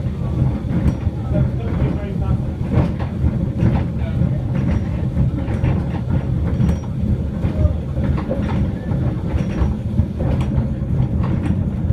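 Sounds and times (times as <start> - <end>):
locomotive rumbling: 0.0 - 11.9
wheels clicking on rails: 0.0 - 11.9.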